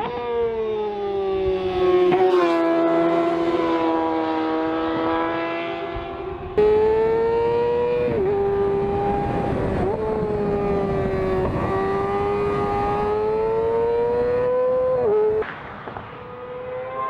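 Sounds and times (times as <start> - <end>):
motorcycle engine screaming at high revs: 1.4 - 15.4, 16.0 - 17.0.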